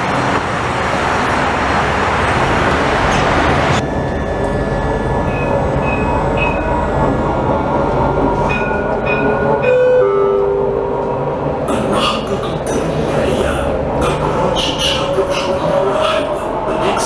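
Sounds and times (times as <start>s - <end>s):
tram rolling and motor noise: 0.0s - 17.0s.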